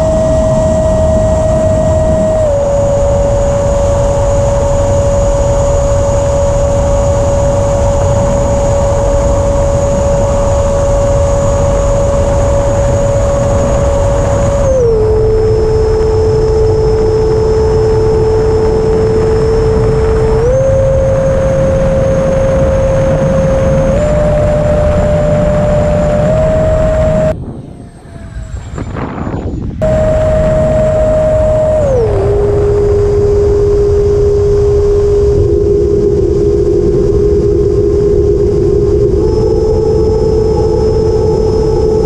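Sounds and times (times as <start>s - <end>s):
electric ducted fan whining: 0.0s - 42.0s
wind noise: 0.0s - 42.0s.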